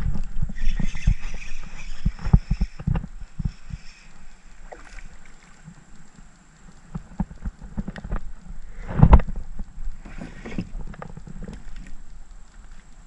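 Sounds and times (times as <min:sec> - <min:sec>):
fishing reel being cranked: 0:00.0 - 0:12.2.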